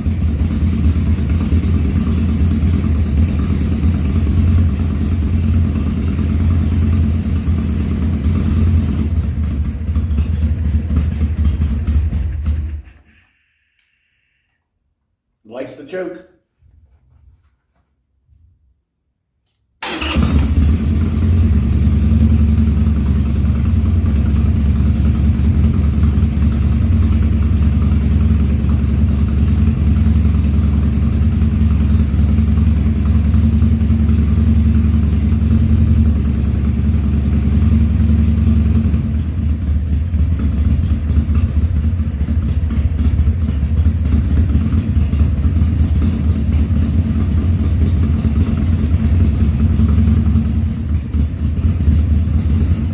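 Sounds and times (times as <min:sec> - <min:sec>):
motorcycle engine running: 0:00.0 - 0:13.0, 0:19.8 - 0:52.9.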